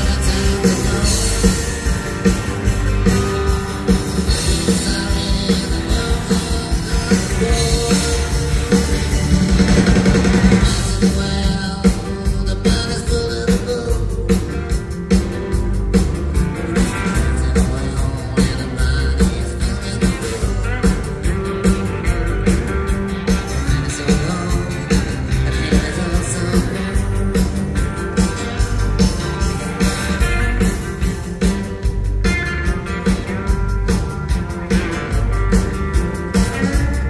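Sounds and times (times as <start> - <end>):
live rock band playing: 0.0 - 37.0.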